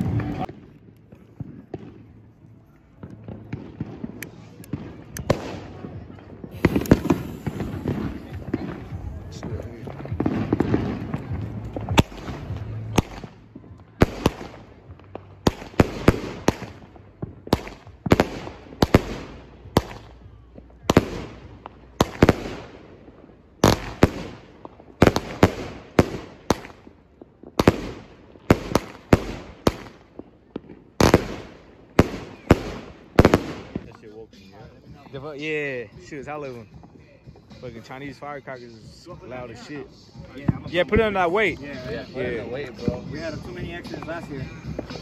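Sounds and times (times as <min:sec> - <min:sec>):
fireworks bursting with sharp bangs: 0:00.0 - 0:45.0.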